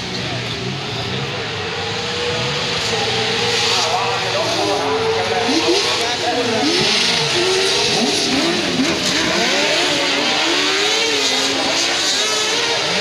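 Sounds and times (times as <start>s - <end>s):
kart engines racing: 0.0s - 13.0s.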